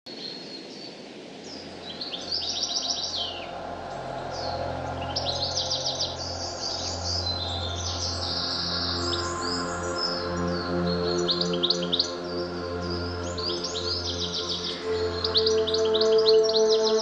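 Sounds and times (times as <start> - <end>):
songbird singing: 0.1 - 17.0.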